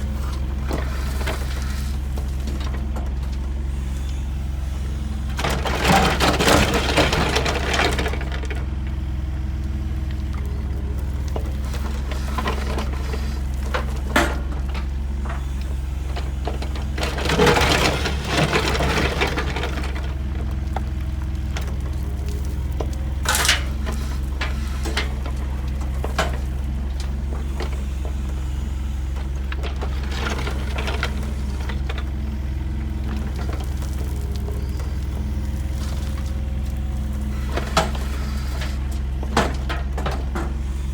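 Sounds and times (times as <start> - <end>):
heavy machine engine droning: 0.0 - 40.9.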